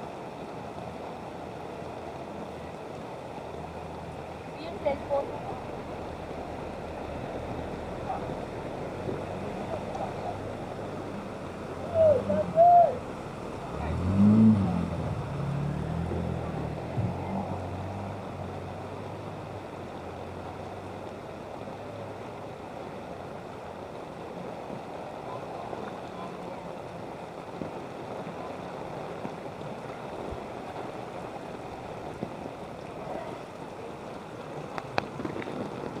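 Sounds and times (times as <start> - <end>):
floodwater sloshing and flowing: 0.0 - 36.0
low vehicle hum: 0.0 - 36.0.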